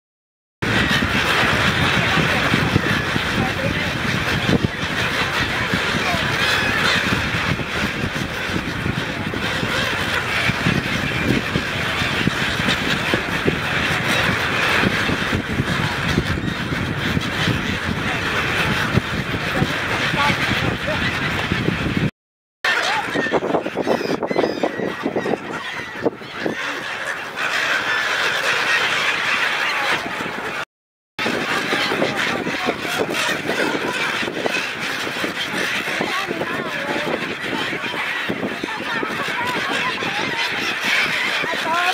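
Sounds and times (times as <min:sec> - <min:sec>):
gulls calling: 0:00.6 - 0:41.9.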